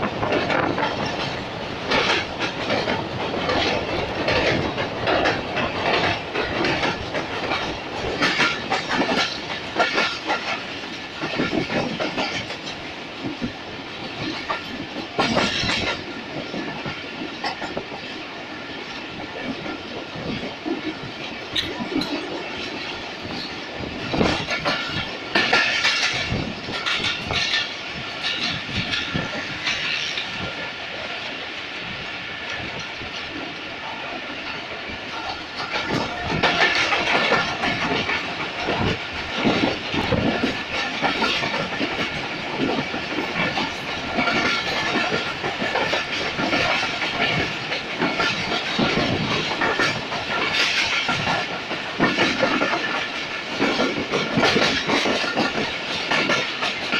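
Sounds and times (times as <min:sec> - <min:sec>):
train running gear rumble: 0:00.0 - 0:56.9
train wheels clattering over joints: 0:00.0 - 0:56.9.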